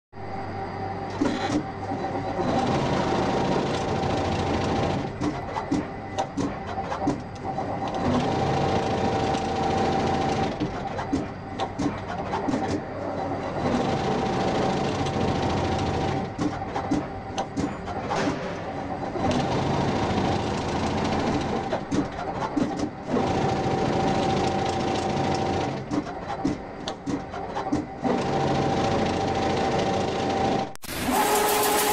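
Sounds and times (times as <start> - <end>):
winding machine whirring: 1.0 - 31.9.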